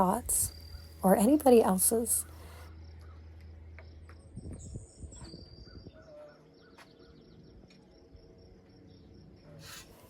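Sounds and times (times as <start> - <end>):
insects: 0.0 - 10.0.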